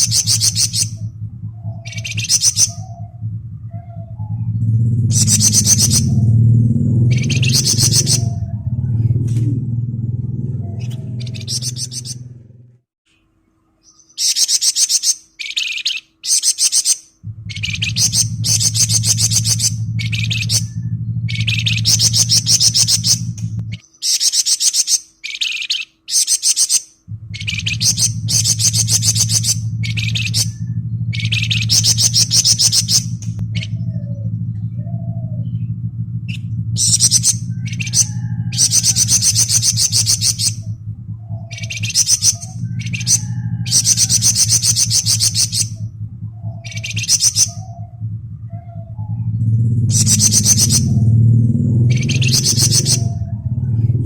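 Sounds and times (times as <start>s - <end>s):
bird singing rattling trills: 0.0s - 54.0s
steady low hum: 0.0s - 54.0s.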